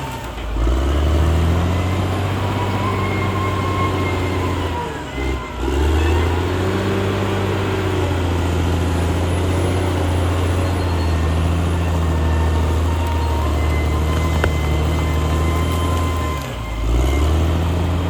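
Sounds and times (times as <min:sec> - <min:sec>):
bulldozer diesel engine drone: 0:00.0 - 0:18.0.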